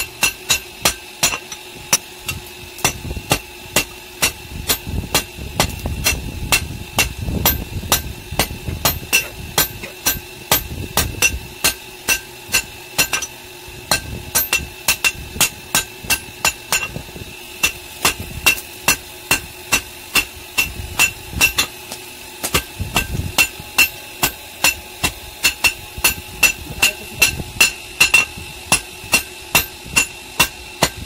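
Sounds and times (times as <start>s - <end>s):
hammer striking metal on anvil: 0.0s - 31.0s.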